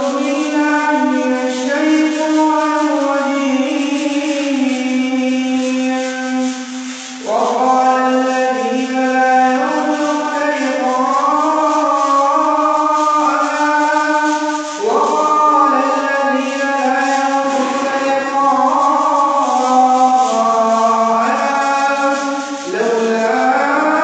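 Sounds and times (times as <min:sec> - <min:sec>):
man chanting melodically: 0:00.0 - 0:24.0.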